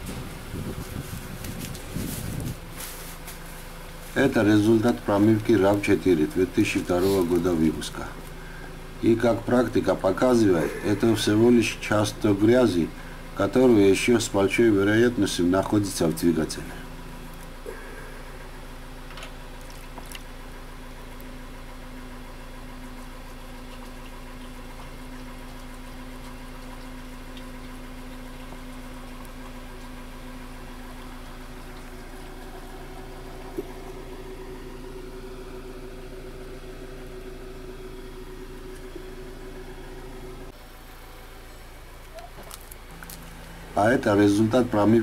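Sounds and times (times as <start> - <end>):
engine idling hum: 0.0 - 45.0.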